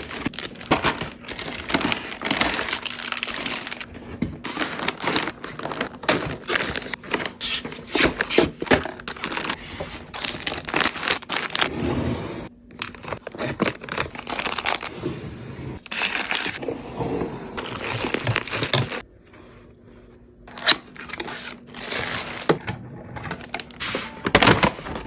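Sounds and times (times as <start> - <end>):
packaging crinkling and rustling: 0.0 - 11.8, 12.7 - 14.9, 15.8 - 16.6, 17.6 - 19.1, 20.5 - 22.6, 23.2 - 25.0.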